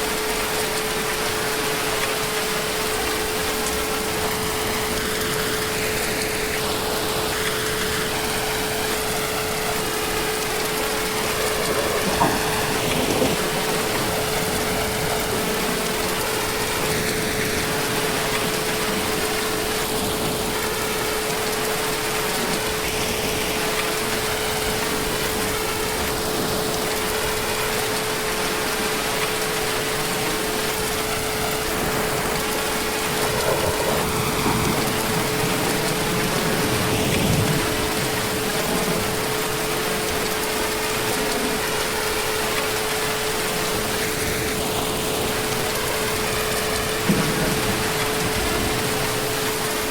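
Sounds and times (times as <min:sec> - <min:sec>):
heavy rain falling: 0:00.0 - 0:49.9
water splashes: 0:00.0 - 0:49.9.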